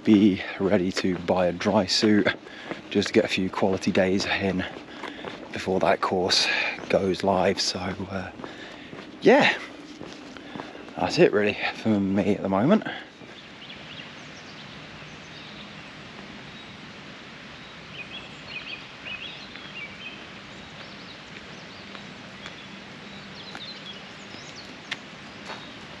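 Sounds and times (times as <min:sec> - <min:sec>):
songbirds chirping: 0:00.0 - 0:26.0
steady background hiss: 0:00.0 - 0:26.0.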